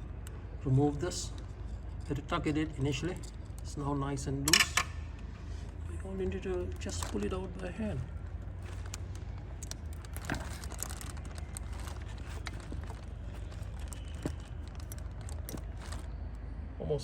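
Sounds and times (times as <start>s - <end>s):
rubber gaskets crinkling and clicking: 0.0s - 16.5s.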